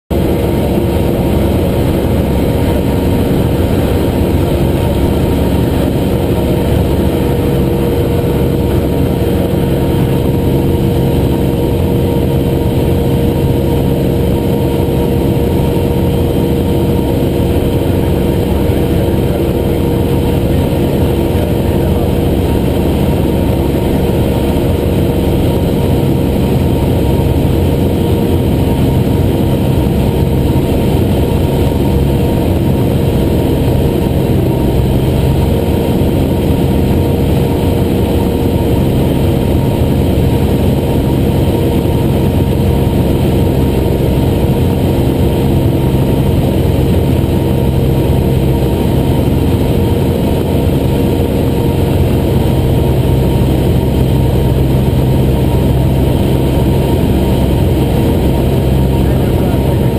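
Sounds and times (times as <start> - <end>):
propeller plane engine in cockpit: 0.0 - 59.9.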